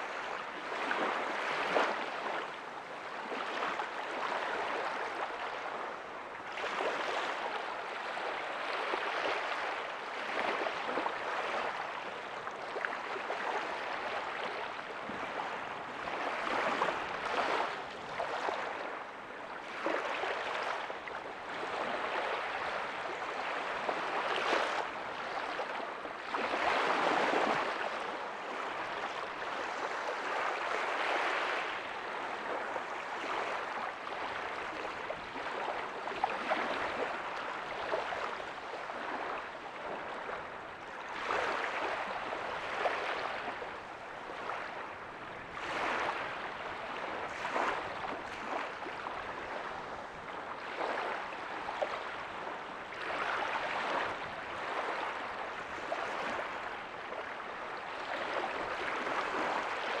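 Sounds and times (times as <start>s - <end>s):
ocean waves breaking on beach: 0.0s - 60.0s.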